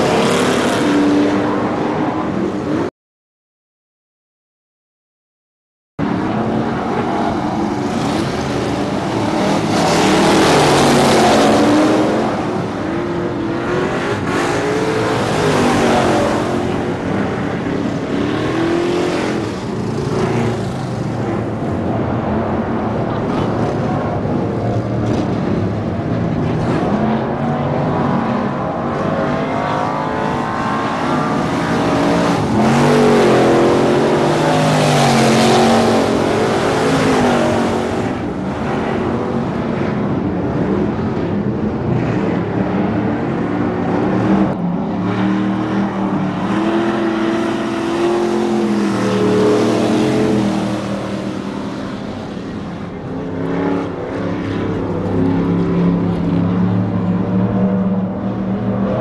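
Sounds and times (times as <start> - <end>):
race car engines passing: 0.0 - 2.9, 6.0 - 59.0.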